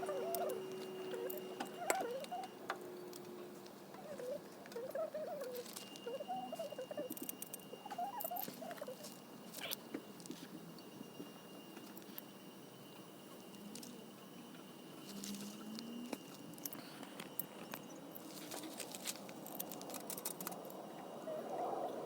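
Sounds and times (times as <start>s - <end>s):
faint wavering whistle tones: 0.0s - 22.0s.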